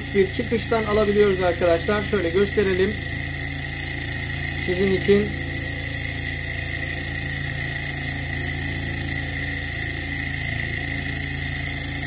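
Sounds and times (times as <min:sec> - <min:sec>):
small engine running: 0:00.0 - 0:12.0
steady high whine: 0:00.0 - 0:12.0.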